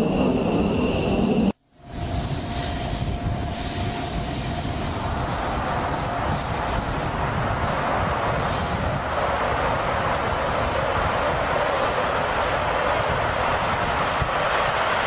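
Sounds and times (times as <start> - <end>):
aircraft engine running: 0.0 - 15.0.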